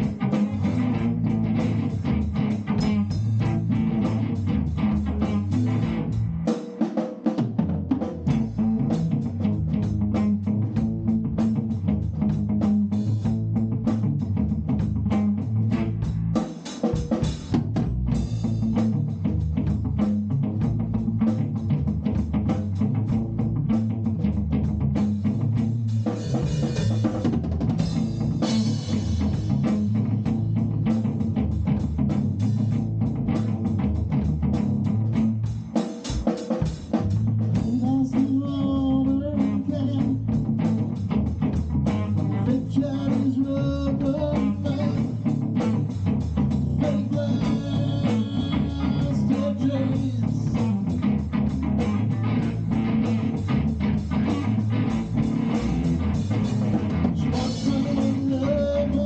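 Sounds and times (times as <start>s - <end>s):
band playing instrumental: 0.0s - 59.0s
drum kit beat: 0.0s - 59.0s.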